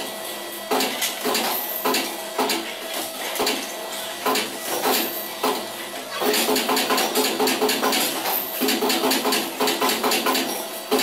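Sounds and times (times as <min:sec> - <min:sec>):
spot welder metallic clacks: 0:00.7 - 0:11.0.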